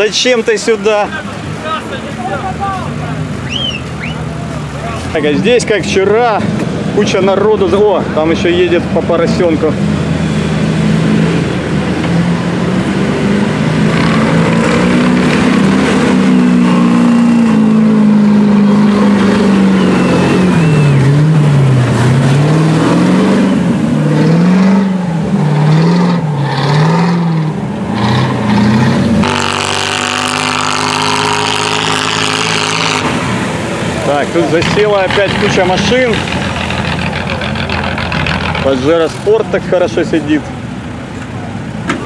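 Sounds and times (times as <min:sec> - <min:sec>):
off-road engines revving: 0:00.0 - 0:42.0.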